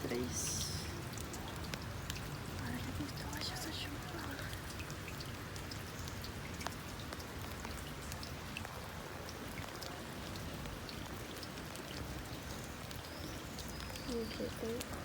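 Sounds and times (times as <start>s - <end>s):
raindrops ticking on surfaces: 0.0s - 15.0s
steady rain hissing: 0.0s - 15.0s.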